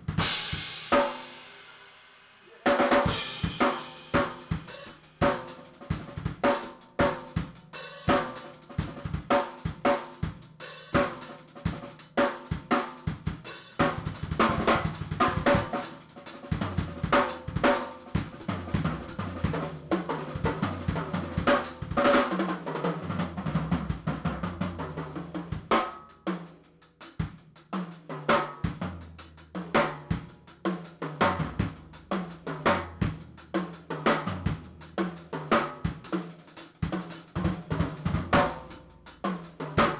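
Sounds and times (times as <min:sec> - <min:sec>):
drum kit playing fast: 0:00.0 - 0:39.9.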